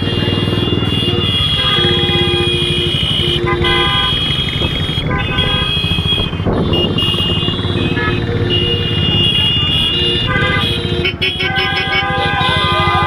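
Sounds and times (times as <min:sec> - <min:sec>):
motorcycle and car engines rumbling: 0:00.0 - 0:13.0
vehicle horns honking: 0:00.0 - 0:13.0.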